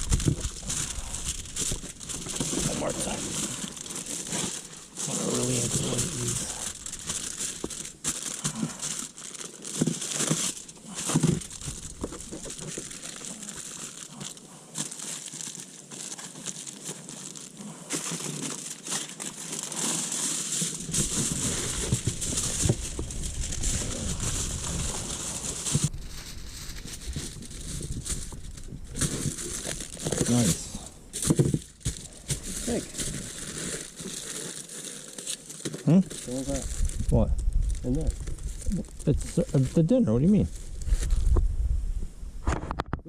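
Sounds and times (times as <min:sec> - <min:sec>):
aluminium foil crumpling: 0:00.0 - 0:41.4.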